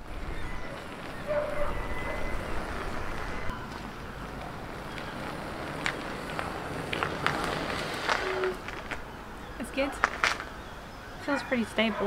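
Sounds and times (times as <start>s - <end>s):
tyres rumbling on wet road: 0.0s - 10.6s.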